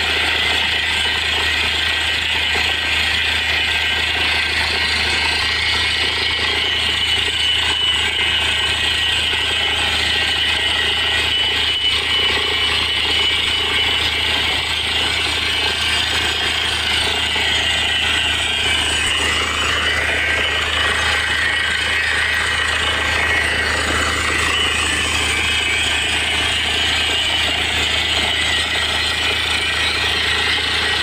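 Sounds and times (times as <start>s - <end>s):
drilling rig engine droning: 0.0s - 31.0s.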